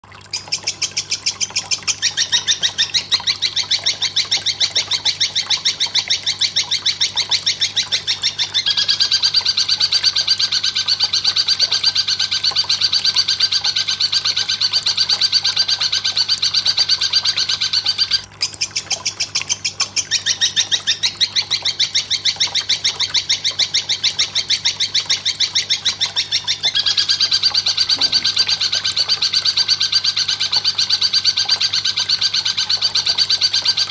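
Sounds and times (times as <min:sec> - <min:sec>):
katydid chirping: 0:00.3 - 0:33.9.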